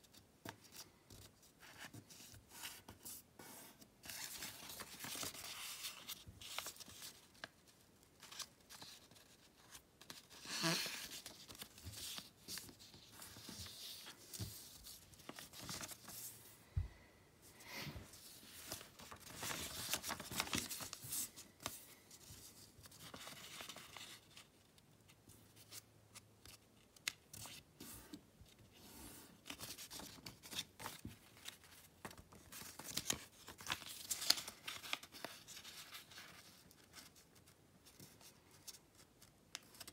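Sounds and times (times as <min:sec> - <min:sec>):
paper rustling and folding: 0:00.1 - 0:16.5, 0:18.0 - 0:39.9.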